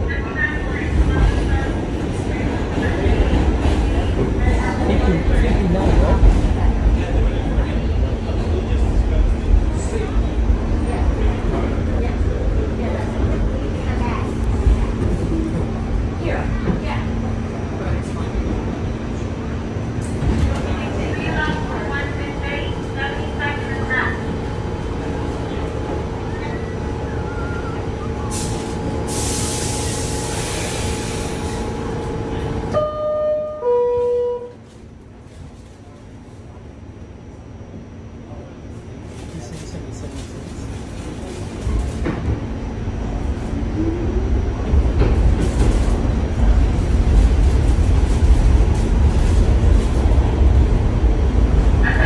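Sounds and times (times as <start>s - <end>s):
subway train rumble: 0.0s - 52.0s.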